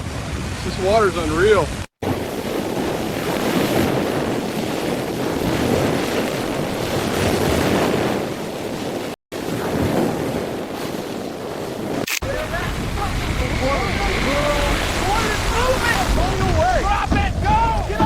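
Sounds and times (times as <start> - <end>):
rushing floodwater: 0.0 - 18.0.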